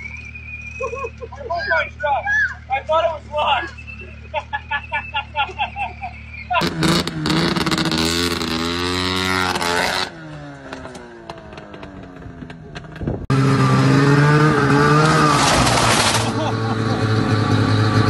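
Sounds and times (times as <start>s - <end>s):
snowmobile engine revving: 0.8s - 12.0s, 13.3s - 18.0s.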